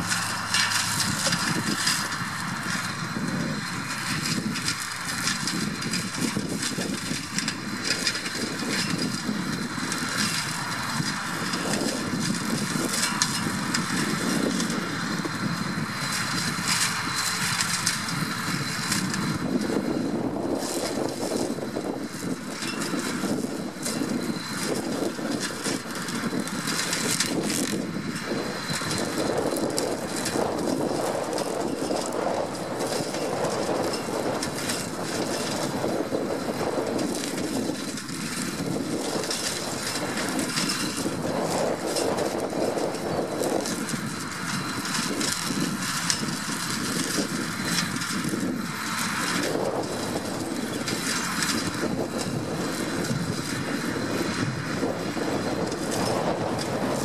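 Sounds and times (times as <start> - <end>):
constant hum: 0.0 - 57.0
flail hedge cutter chopping: 0.0 - 57.0
tractor diesel engine under load: 0.0 - 57.0.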